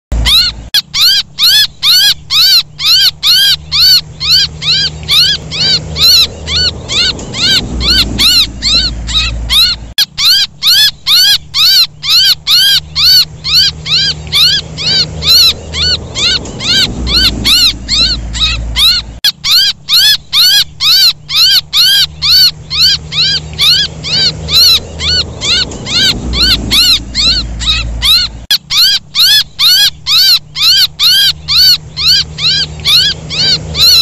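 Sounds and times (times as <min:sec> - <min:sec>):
young bird shrill chirps: 0:00.2 - 0:34.0.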